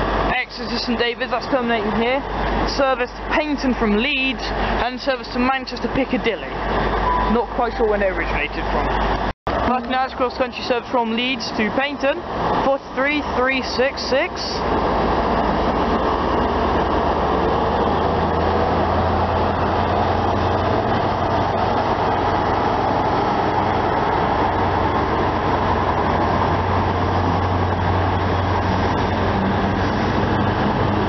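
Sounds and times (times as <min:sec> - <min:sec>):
diesel locomotive low drone: 0:00.0 - 0:31.0
train coaches rolling over rails: 0:00.0 - 0:31.0.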